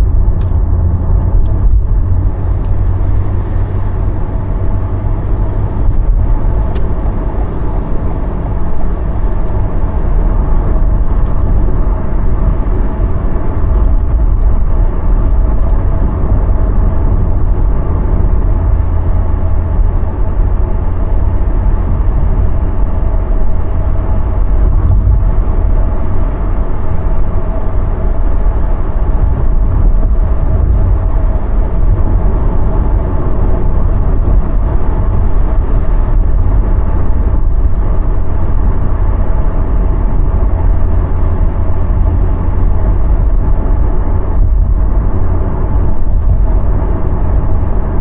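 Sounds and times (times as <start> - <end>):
car road rumble inside cabin: 0.0 - 48.0.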